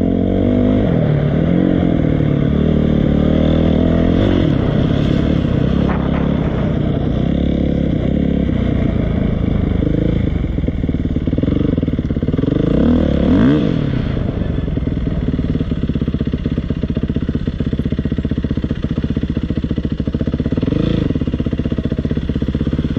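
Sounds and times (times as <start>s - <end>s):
dirt bike engine revving: 0.0s - 17.3s, 17.9s - 22.9s.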